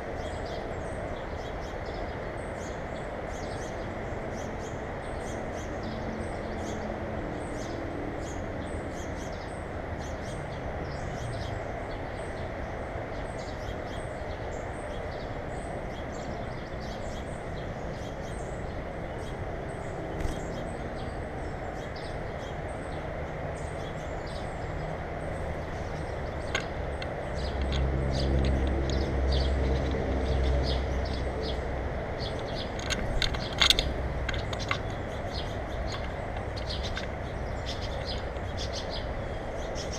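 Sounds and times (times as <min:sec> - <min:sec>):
small birds chirping: 0:00.0 - 0:39.9
steady outdoor hum: 0:00.0 - 0:39.9
passing vehicle engine rumble: 0:03.3 - 0:39.9.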